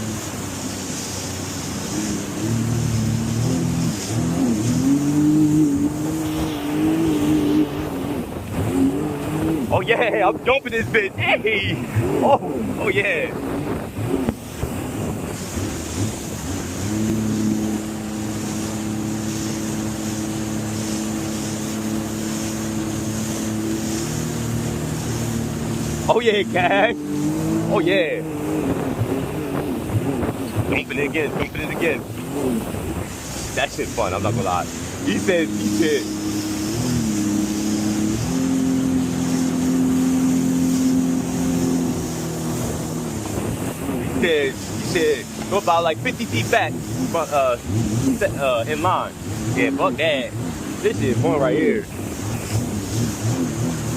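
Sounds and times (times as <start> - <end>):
jet ski engine running: 0.0 - 53.9
wind buffeting microphone: 0.0 - 53.9.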